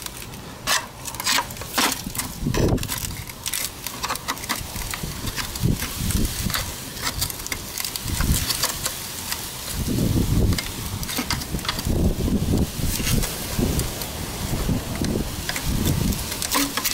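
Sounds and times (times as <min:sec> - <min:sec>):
metal rod clicking and scraping: 0:00.0 - 0:09.8, 0:10.4 - 0:13.3, 0:15.0 - 0:16.9.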